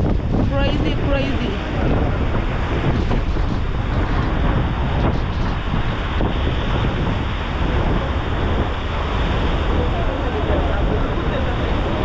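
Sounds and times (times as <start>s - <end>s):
heavy waves rushing: 0.0s - 12.0s
wind buffeting microphone: 0.0s - 12.0s.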